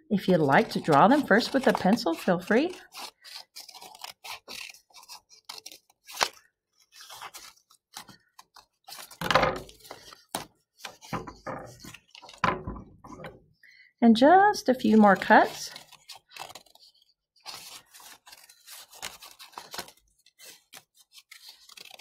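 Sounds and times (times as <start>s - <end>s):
scissors snipping paper: 0.3s - 11.0s, 14.9s - 22.0s
paper rustling: 0.3s - 12.5s, 14.9s - 22.0s.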